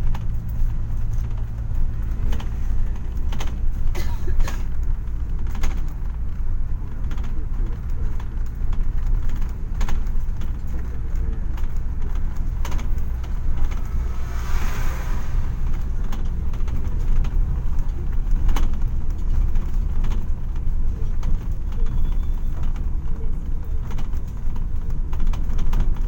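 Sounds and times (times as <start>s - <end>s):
vehicle cabin engine and road noise: 0.0s - 26.0s.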